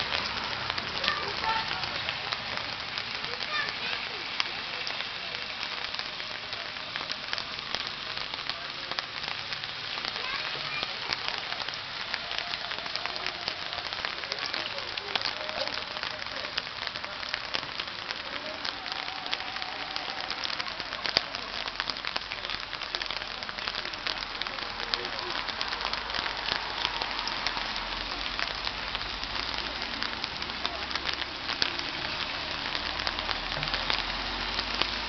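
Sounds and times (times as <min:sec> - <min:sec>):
faint voices: 0:00.0 - 0:35.0
rain pattering: 0:00.0 - 0:35.0.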